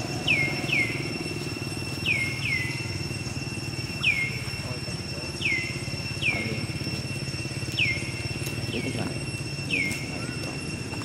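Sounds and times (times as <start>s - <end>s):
insect drone: 0.0s - 11.0s
low pulsing hum: 0.0s - 11.0s.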